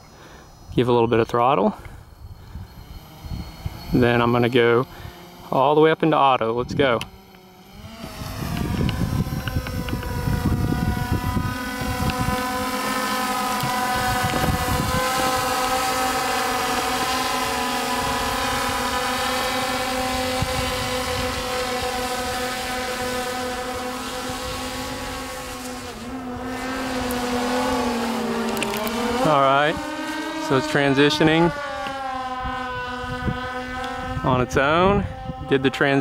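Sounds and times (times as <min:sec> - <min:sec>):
drone propellers buzzing: 0:00.0 - 0:36.0
wind buffeting microphone: 0:00.7 - 0:05.5, 0:06.2 - 0:36.0.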